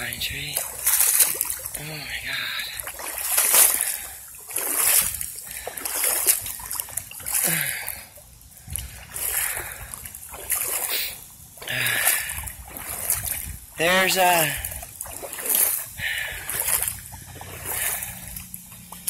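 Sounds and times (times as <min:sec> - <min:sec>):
boots splashing through water: 0:00.0 - 0:19.0
trickle of moving water: 0:00.0 - 0:19.0.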